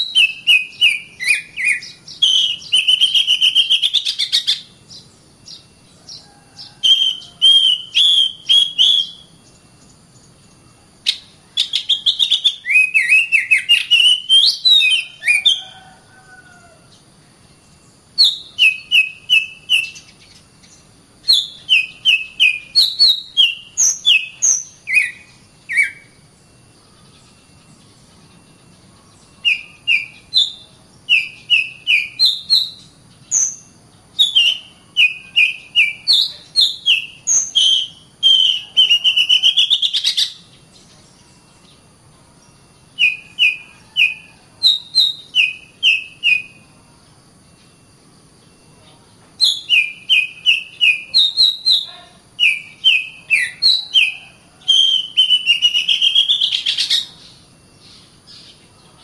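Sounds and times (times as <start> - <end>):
bird singing whistled notes: 0.0 - 46.8, 47.4 - 59.0.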